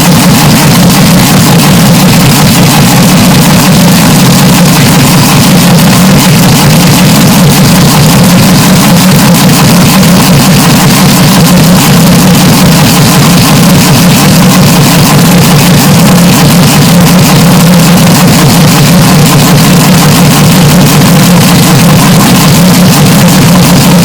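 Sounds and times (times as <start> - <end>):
distorted engine drone: 0.0 - 24.0.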